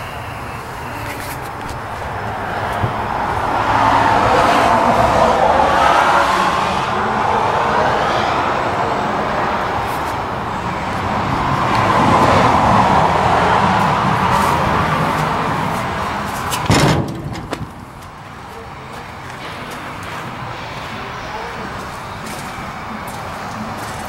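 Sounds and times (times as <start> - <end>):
passing road traffic: 0.0 - 24.0.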